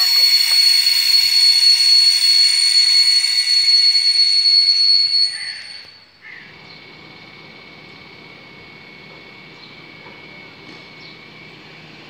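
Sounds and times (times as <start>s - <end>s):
rails singing high-pitched whine: 0.0s - 12.0s.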